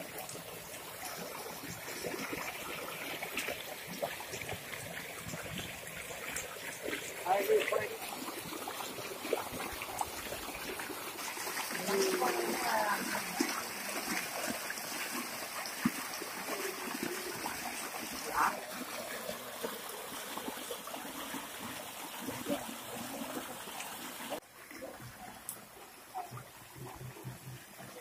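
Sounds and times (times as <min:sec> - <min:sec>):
water splashing over rocks: 0:00.0 - 0:28.0.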